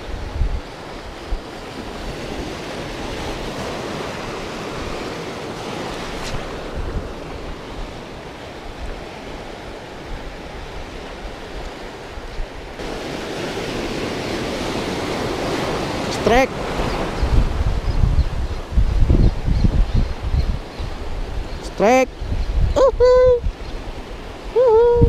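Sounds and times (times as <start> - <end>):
sea waves rushing: 0.0 - 25.0
wind on microphone: 0.0 - 25.0.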